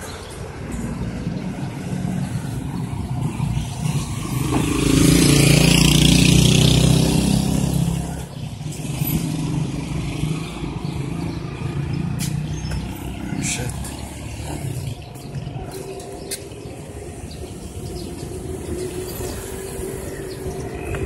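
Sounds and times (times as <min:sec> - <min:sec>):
street traffic: 0:00.0 - 0:21.0
vehicle driving past: 0:01.2 - 0:21.0.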